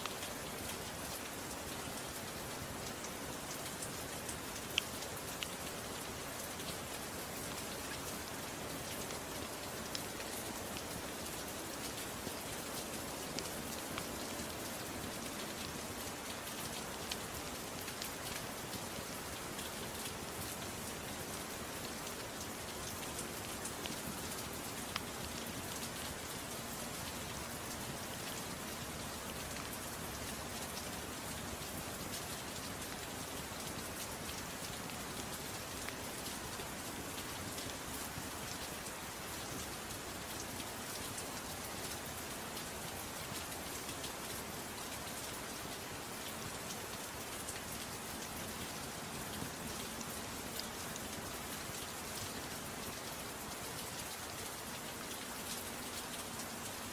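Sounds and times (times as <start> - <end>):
faint crackles and ticks: 0.0 - 56.9
soft rain falling: 0.0 - 56.9.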